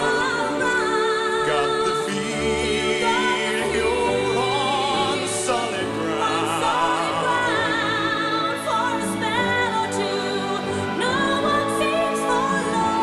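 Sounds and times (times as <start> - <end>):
orchestral ballad accompaniment: 0.0 - 13.0.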